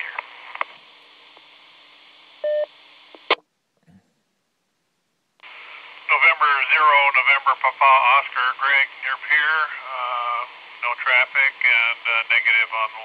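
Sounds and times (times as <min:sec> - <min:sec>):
radio carrier hiss: 0:00.0 - 0:03.4, 0:05.4 - 0:13.0.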